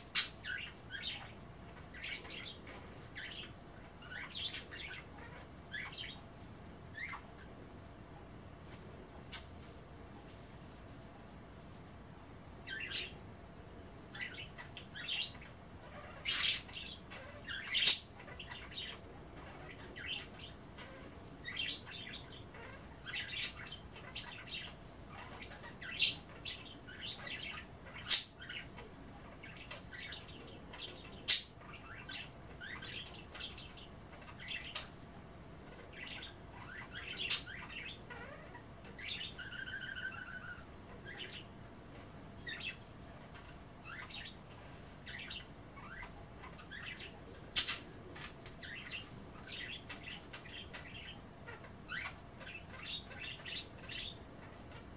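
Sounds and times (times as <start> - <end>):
budgerigars chattering: 0.0 - 6.2, 6.9 - 7.5, 14.1 - 35.0, 35.7 - 41.5, 42.4 - 48.0, 48.6 - 54.9.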